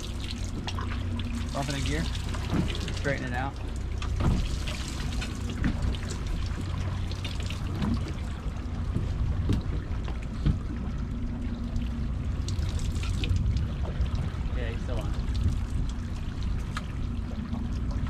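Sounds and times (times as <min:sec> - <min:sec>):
outboard motors idling: 0:00.0 - 0:18.0
water splashing along hull: 0:00.0 - 0:18.0.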